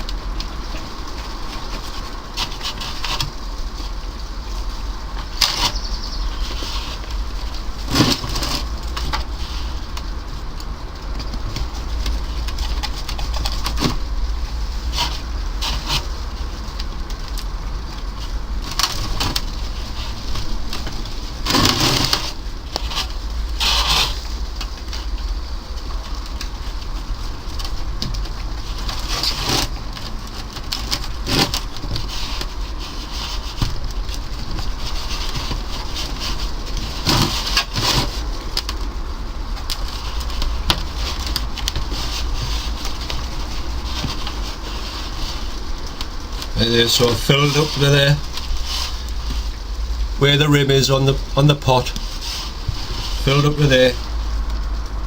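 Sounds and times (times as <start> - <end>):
compost rustling into a pot: 0.0 - 55.0.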